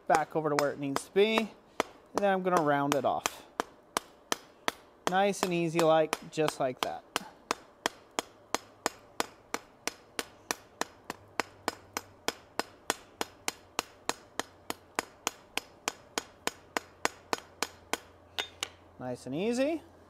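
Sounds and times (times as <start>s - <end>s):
hammer striking hot rivet: 0.1s - 18.8s.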